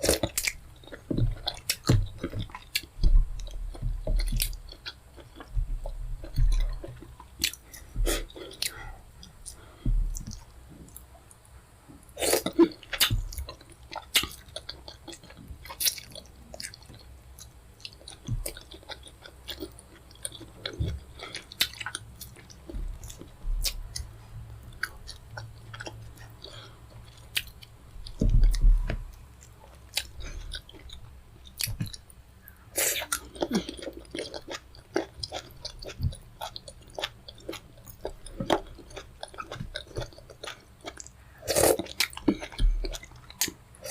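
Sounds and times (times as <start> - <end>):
chewing and mouth sounds: 0.0 - 11.4, 12.1 - 43.9.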